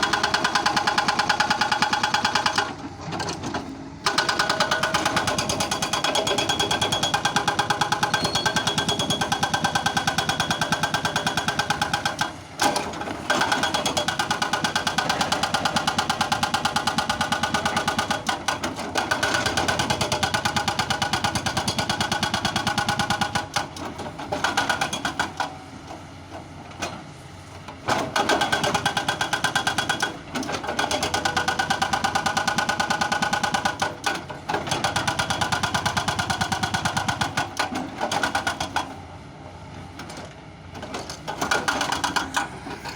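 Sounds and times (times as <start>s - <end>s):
excavator engine and hydraulics: 0.0s - 42.9s.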